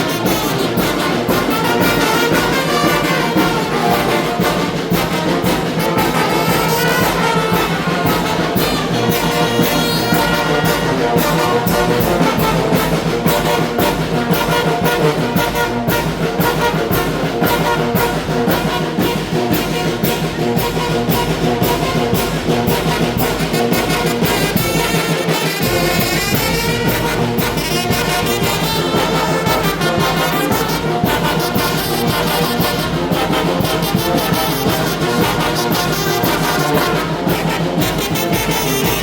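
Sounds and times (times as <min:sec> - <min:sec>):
steady percussion beat: 0:00.0 - 0:39.0
trumpets and trombones: 0:00.0 - 0:39.0.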